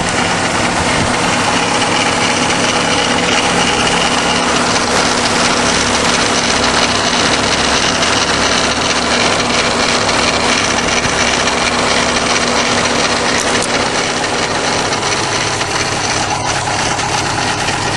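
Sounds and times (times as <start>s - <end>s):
car engine idling: 0.0s - 17.9s
engine grinding noise: 0.0s - 17.9s.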